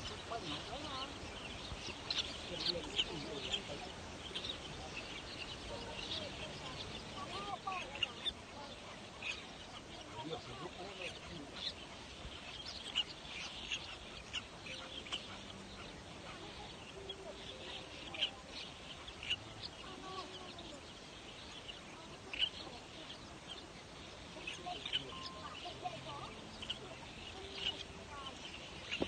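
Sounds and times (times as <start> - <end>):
waterbird colony calling: 0.0 - 29.0.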